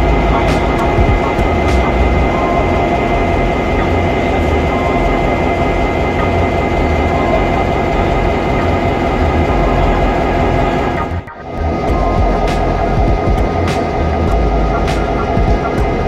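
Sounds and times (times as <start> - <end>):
constant whine: 0.0 - 16.0
locomotive engine idling: 0.0 - 16.0.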